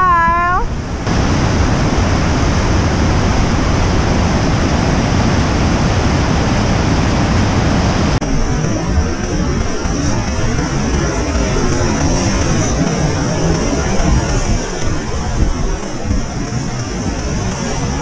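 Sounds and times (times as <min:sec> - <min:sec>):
thinner rush of water: 0:00.7 - 0:18.0.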